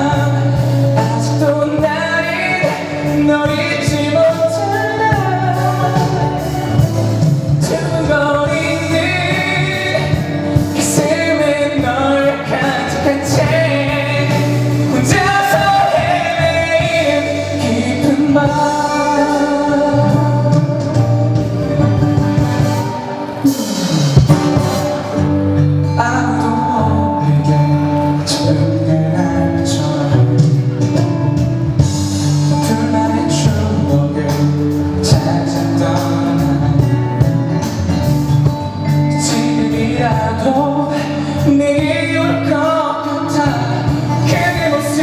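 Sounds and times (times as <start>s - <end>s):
instrumental accompaniment: 0.0s - 45.0s
man singing pop ballad: 0.0s - 45.0s.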